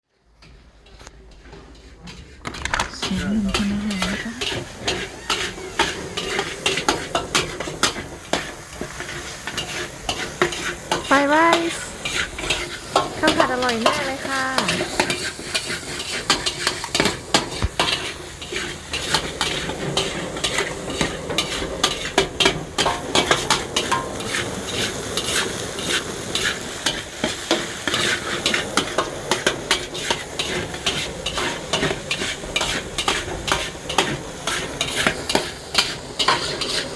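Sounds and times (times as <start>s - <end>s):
rice sizzling in a pan: 0.2s - 36.9s
spatula scraping a pan: 0.4s - 36.9s.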